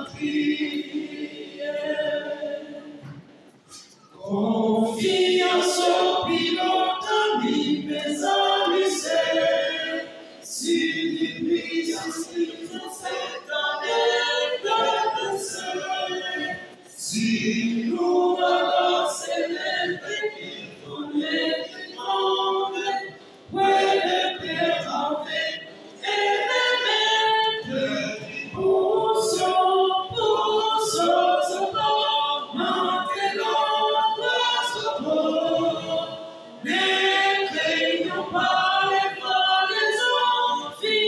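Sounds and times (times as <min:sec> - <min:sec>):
men's choir singing a hymn: 0:00.0 - 0:41.0.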